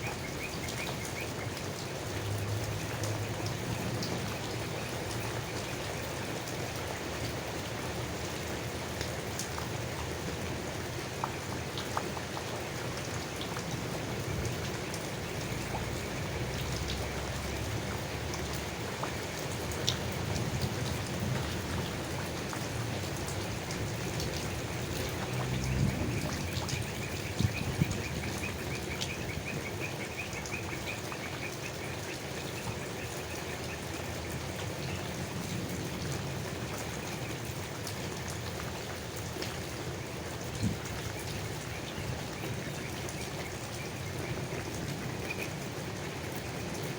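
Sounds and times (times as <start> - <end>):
rain pattering on leaves: 0.0 - 46.9.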